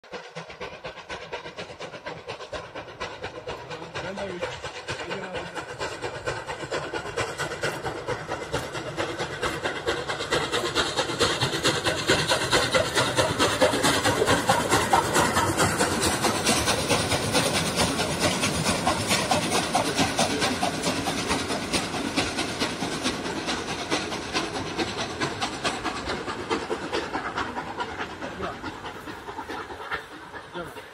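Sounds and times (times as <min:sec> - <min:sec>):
steam locomotive chuffing: 0:00.0 - 0:30.9
train rumble: 0:00.0 - 0:30.9.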